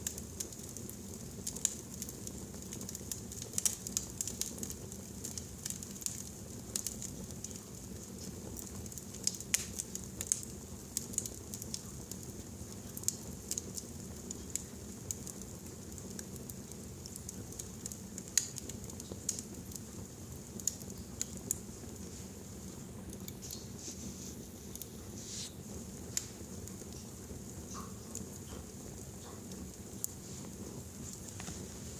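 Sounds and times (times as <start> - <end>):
fire crackling and popping: 0.0 - 31.9
low rumble of flames: 0.0 - 31.9.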